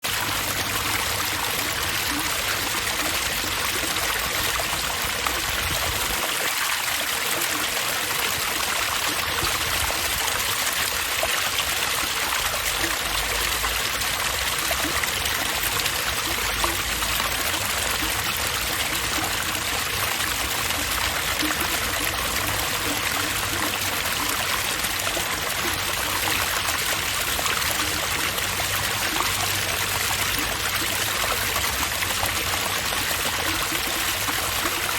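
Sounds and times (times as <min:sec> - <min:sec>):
water running and splashing: 0:00.0 - 0:34.9.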